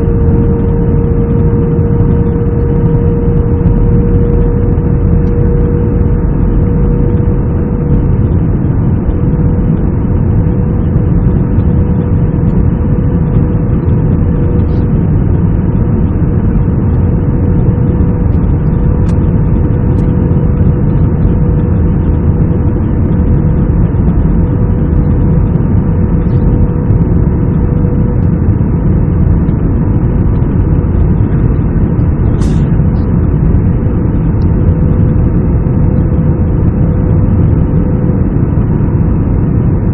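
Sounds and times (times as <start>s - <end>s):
airliner engines droning: 0.0s - 39.9s
constant hum: 0.0s - 39.9s.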